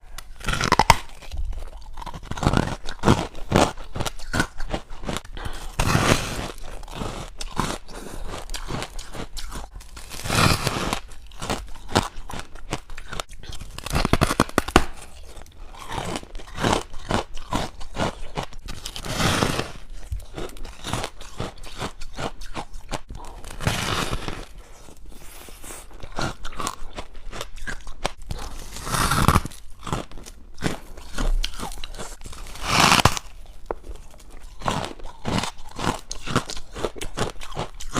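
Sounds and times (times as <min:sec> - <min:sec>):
chewing crunchy ice: 0:00.1 - 0:37.9.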